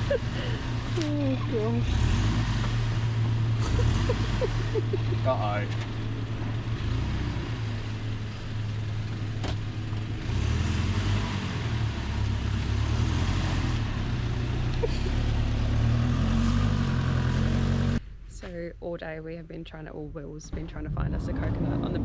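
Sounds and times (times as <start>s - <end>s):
vehicle engine revving: 0.0s - 18.0s, 20.7s - 22.0s.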